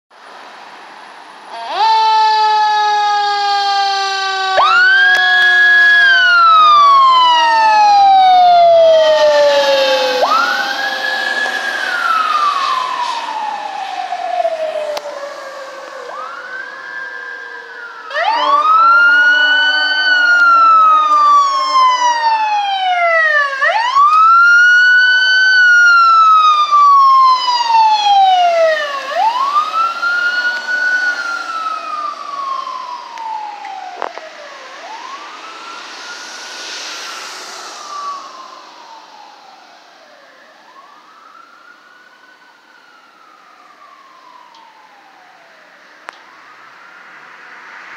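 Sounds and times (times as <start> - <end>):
traffic hum: 0.1 - 47.9
ambulance siren wailing: 0.4 - 47.9.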